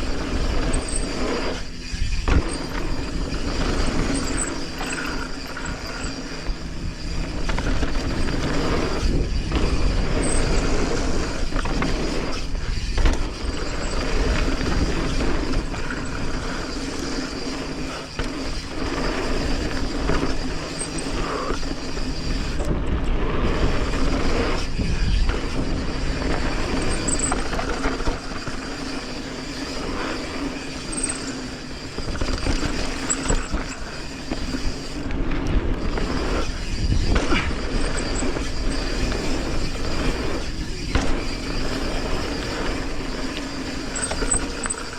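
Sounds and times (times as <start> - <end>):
bike rattling over bumps: 0.0 - 44.9
tyres rolling on dirt: 0.0 - 44.9
wind rush on microphone: 0.0 - 44.9.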